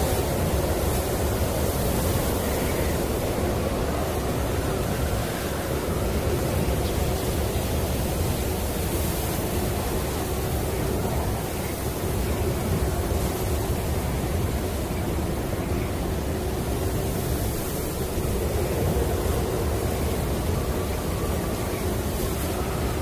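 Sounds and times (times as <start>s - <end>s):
snowstorm wind blowing: 0.0s - 23.0s.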